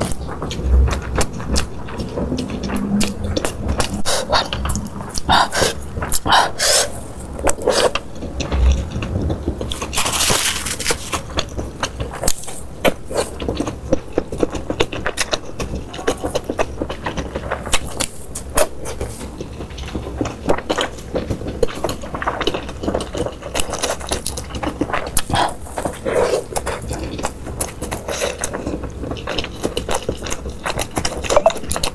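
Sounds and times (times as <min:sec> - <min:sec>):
chewing and crunching food: 0:00.0 - 0:31.9.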